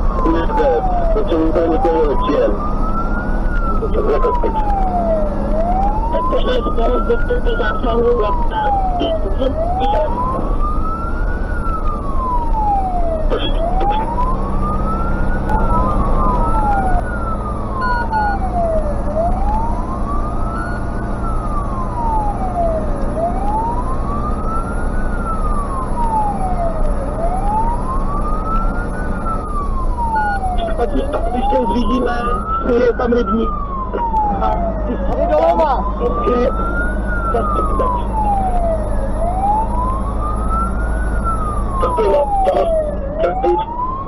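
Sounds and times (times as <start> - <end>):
diesel engine drone: 0.0 - 44.0
fire truck siren wailing: 0.0 - 44.0.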